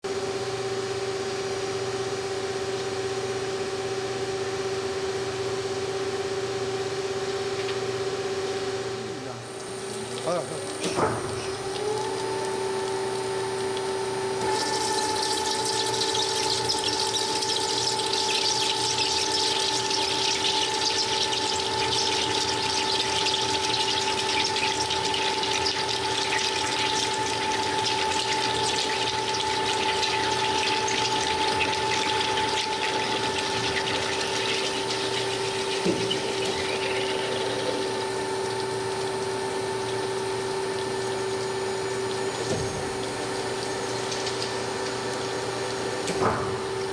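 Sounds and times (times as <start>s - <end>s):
machine motor whine: 0.1s - 46.9s.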